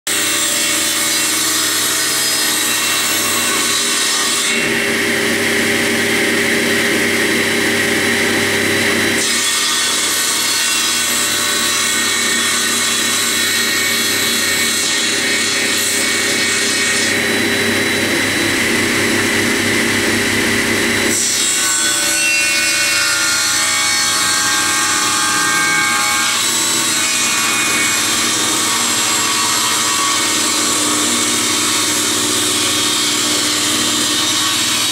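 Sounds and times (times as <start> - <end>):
table saw blade ripping board: 0.1 - 5.8, 9.1 - 34.9.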